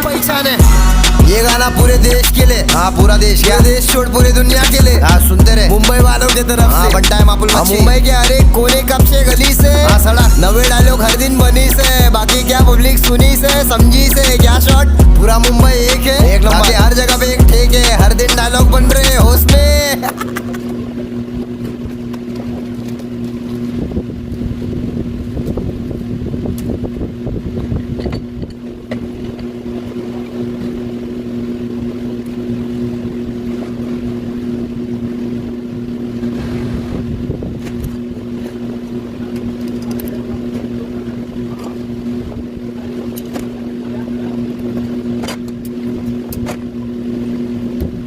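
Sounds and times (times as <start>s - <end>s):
motor humming: 0.0s - 48.0s.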